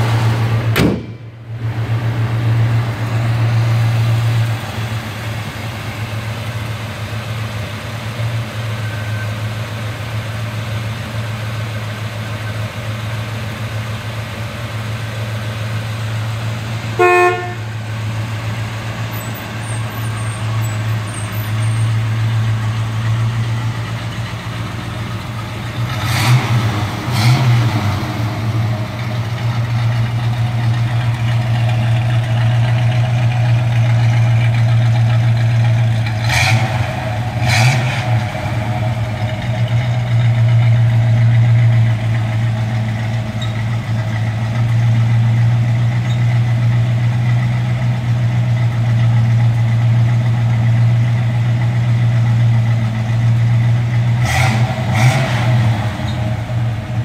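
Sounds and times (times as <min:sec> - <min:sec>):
pickup engine idling: 0:00.0 - 0:26.0, 0:28.0 - 0:54.2, 0:55.8 - 0:57.0.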